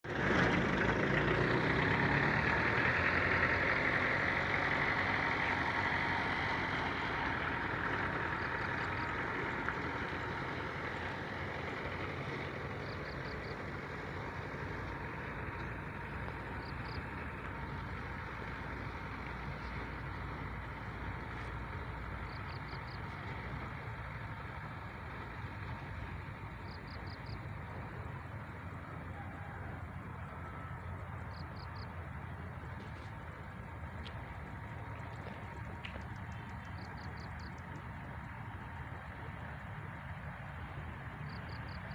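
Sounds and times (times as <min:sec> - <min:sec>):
passing train rumble: 0:00.0 - 0:41.9.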